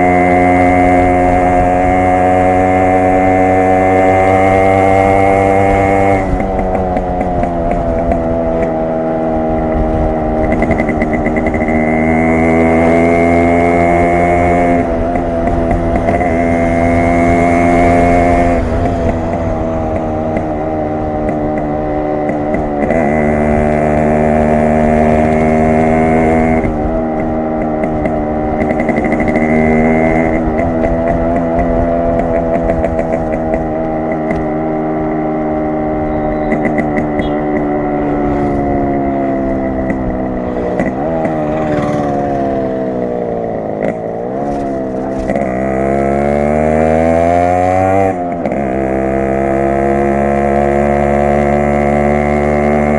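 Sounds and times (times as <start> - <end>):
two-stroke motorcycle engine: 0.0 - 52.9.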